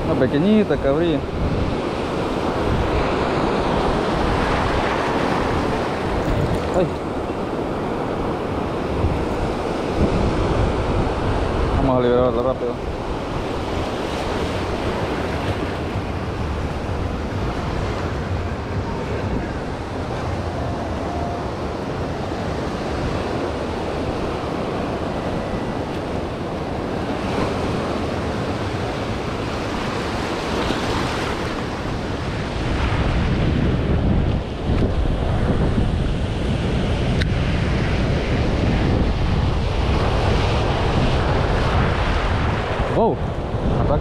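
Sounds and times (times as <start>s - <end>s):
waves washing over rocks: 0.0s - 44.0s
wind buffeting microphone: 0.0s - 44.0s.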